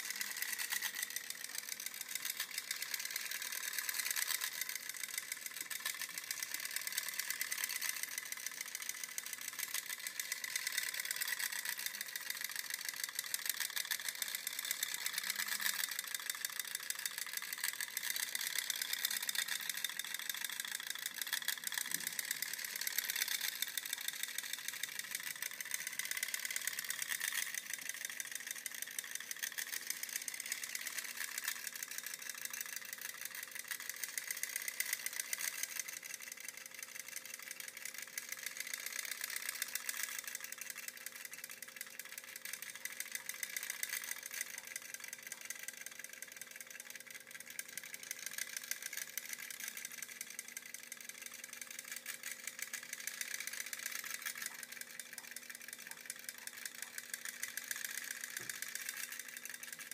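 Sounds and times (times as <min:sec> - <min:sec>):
clockwork toy gears whirring: 0:00.0 - 0:59.9.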